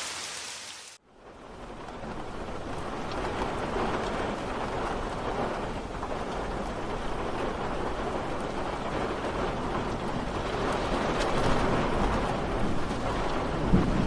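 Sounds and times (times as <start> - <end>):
steady rain hiss: 0.0 - 14.0
raindrop ticks: 1.6 - 14.0.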